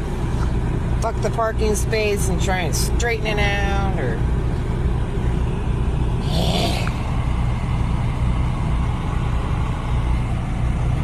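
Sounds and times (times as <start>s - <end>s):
car engine running inside cabin: 0.0s - 11.0s.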